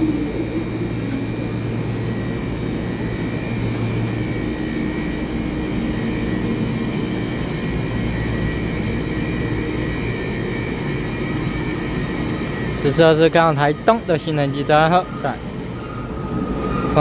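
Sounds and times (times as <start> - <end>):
train electric hum and whine: 0.0 - 17.0.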